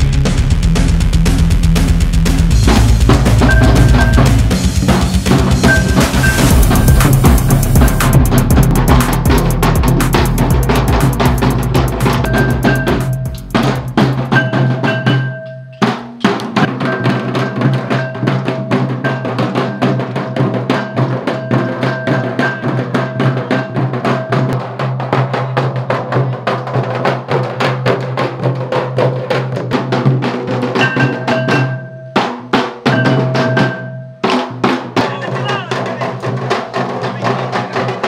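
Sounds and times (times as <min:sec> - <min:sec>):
large drums beaten with sticks: 0:00.0 - 0:38.0.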